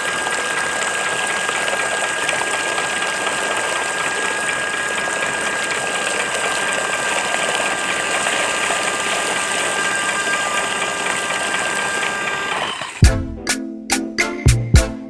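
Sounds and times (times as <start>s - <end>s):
small water pump running: 0.0s - 13.1s.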